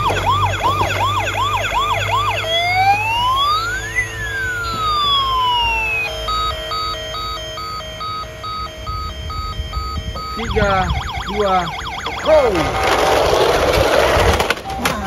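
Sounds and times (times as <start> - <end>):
toy fire truck siren: 0.0 - 14.9.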